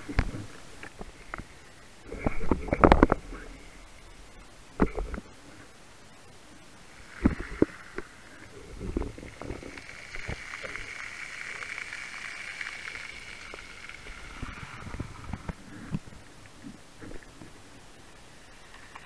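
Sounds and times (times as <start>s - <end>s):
boat engine whine underwater: 0.0s - 19.0s.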